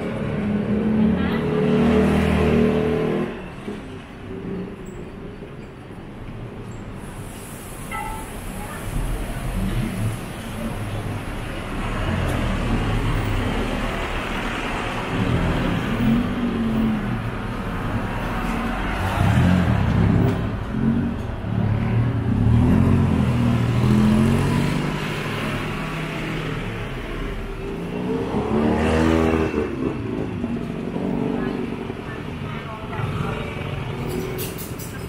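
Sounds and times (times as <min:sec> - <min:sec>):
vehicle engines passing: 0:00.0 - 0:35.0.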